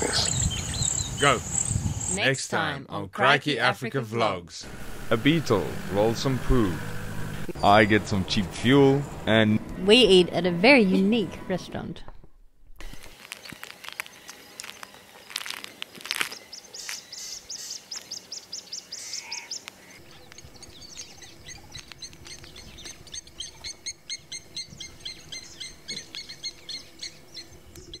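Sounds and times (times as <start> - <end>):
birds chirping: 0.0 - 2.2, 4.6 - 28.0.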